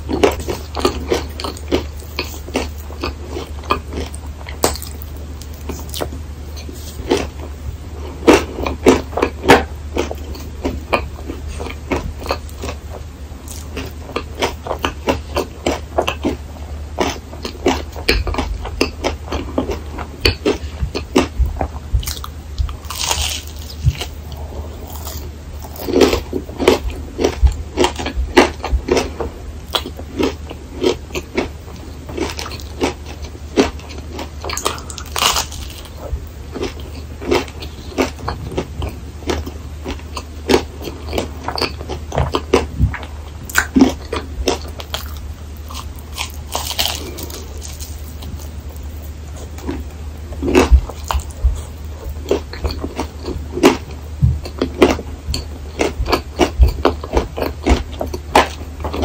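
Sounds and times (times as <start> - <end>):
crunchy food chewing: 0.0 - 59.0.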